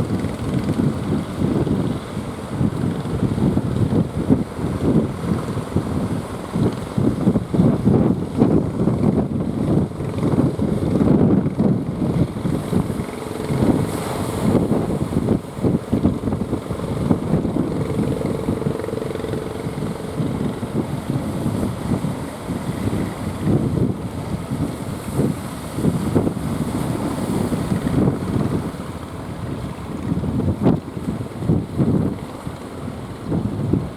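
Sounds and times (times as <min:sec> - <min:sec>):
boat motor hum: 0:00.0 - 0:33.9
wind buffeting microphone: 0:00.0 - 0:33.9.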